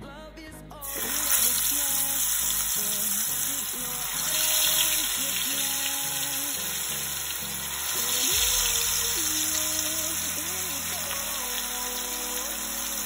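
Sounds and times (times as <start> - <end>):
fish sizzling in hot oil: 0.8 - 13.0.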